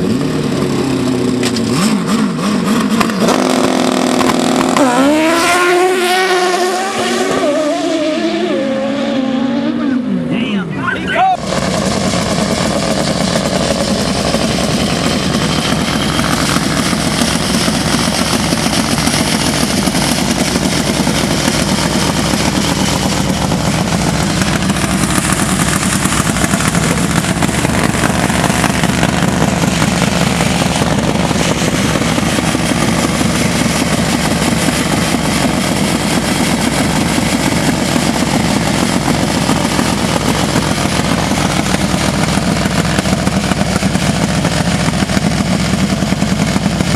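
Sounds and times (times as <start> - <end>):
motorcycle engine running: 0.0 - 8.8, 11.4 - 46.9.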